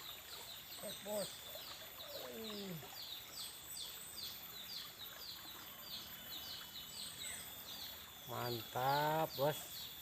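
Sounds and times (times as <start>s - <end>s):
faint high bird chirps: 0.0s - 10.0s.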